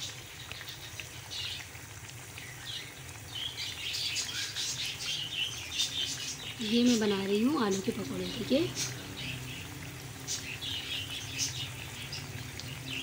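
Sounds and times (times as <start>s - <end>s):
deep-frying sizzle and crackling: 0.0s - 13.0s.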